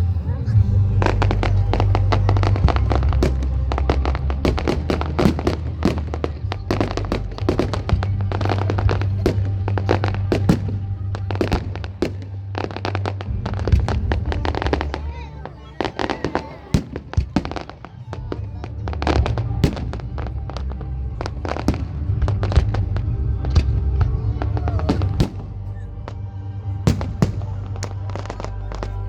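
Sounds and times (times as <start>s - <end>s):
music with heavy bass: 0.0s - 17.7s, 18.5s - 29.0s
fireworks bangs and crackles: 0.0s - 29.0s.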